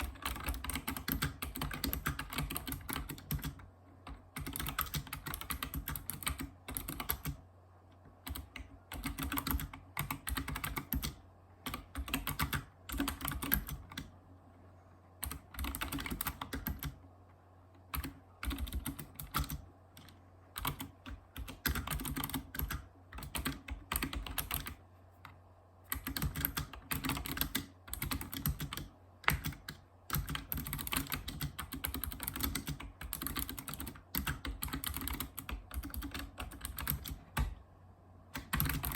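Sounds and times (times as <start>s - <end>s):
clicky keyboard typing: 0.0s - 14.2s, 15.2s - 17.1s, 17.7s - 37.6s, 38.3s - 38.9s.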